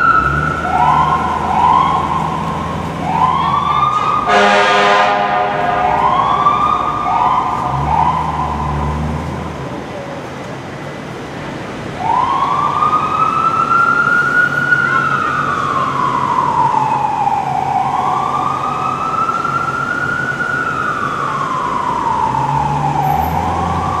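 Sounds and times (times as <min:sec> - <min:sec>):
fire engine siren: 0:00.0 - 0:10.2, 0:11.7 - 0:24.0.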